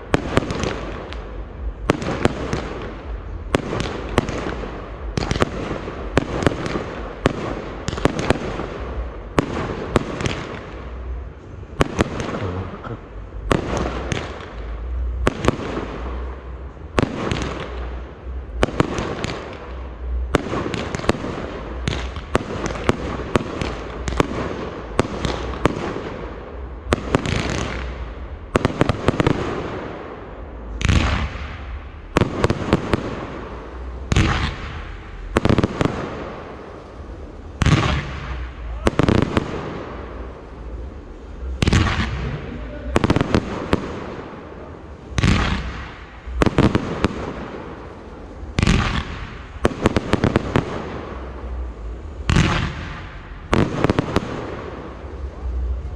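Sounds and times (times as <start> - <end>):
continuous low rumble: 0.0 - 55.9
fireworks crackle: 0.0 - 55.9.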